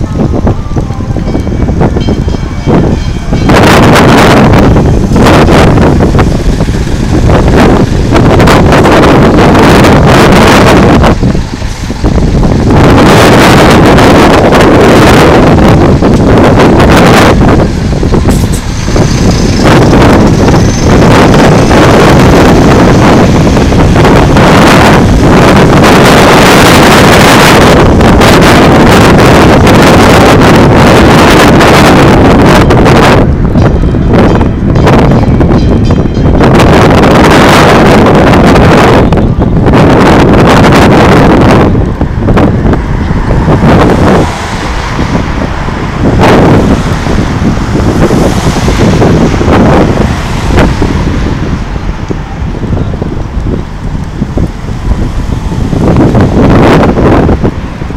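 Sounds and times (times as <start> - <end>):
cars passing: 0.0 - 57.9
wind buffeting microphone: 0.0 - 57.9.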